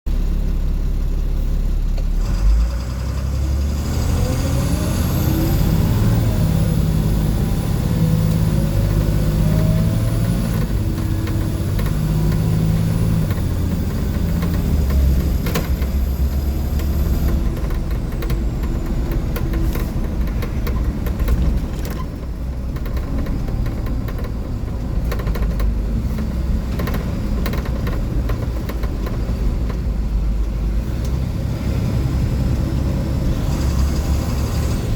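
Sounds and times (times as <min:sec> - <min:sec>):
bus body rattles and clicks: 0:00.1 - 0:34.9
bus diesel engine rumble: 0:00.1 - 0:34.9.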